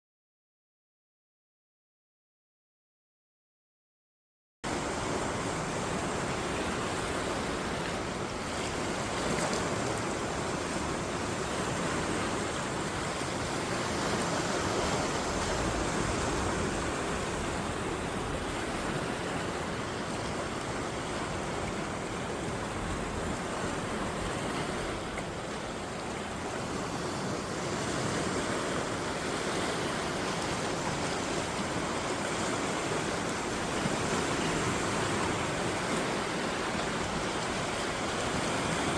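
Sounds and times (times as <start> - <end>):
waves crashing on shore: 4.7 - 38.9.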